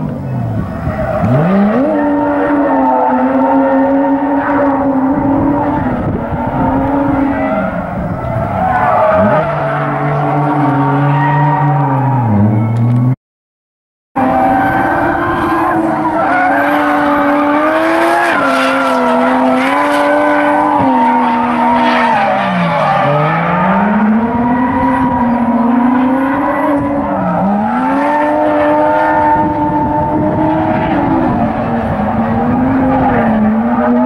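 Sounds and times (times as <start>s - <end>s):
car engine revving high: 0.0s - 13.1s, 14.2s - 34.0s.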